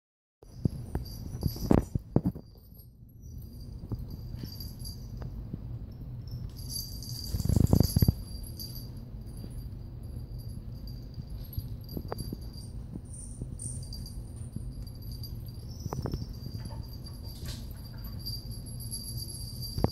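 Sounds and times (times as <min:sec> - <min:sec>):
small bells jingling: 0:00.4 - 0:19.9.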